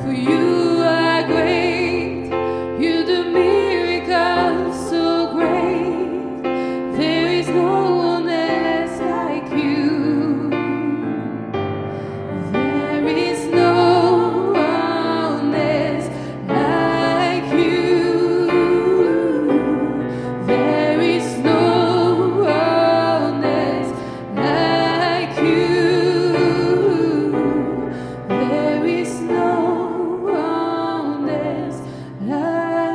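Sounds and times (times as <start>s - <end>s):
women singing gospel song: 0.0s - 11.4s, 12.2s - 32.9s
keyboard accompaniment: 0.0s - 32.9s.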